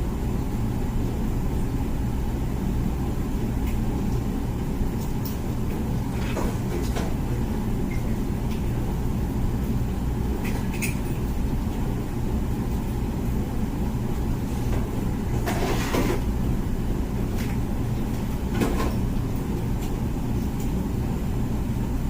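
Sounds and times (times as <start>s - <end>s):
dishwasher pump humming: 0.0s - 22.0s
water spraying inside dishwasher: 2.4s - 22.0s.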